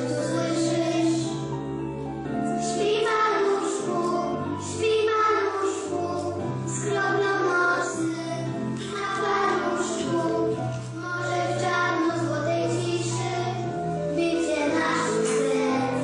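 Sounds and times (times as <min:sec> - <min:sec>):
children's choir singing: 0:00.0 - 0:01.6, 0:02.6 - 0:16.0
instrumental accompaniment: 0:00.0 - 0:16.0.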